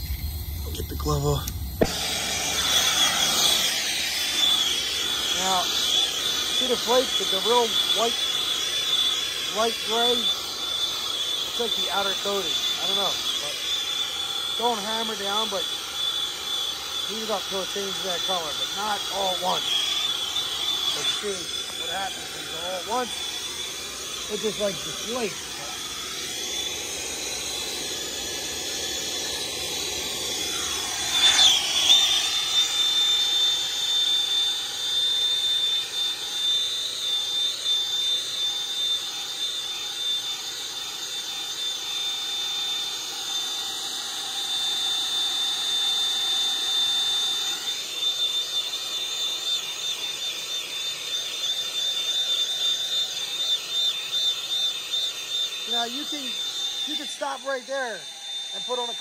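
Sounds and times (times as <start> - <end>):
gas torch hissing roar: 0.0 - 59.0.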